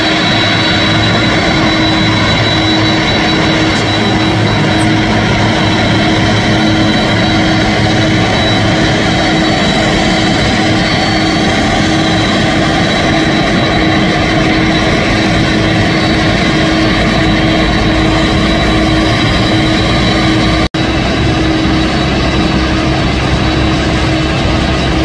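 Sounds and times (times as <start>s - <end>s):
high jet whine: 0.0s - 25.0s
jet engines running: 0.0s - 25.0s.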